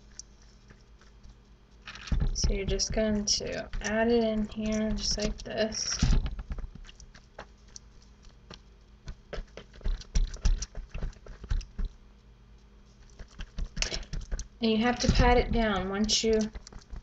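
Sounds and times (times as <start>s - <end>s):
hands squishing ground meat: 0.0s - 14.6s.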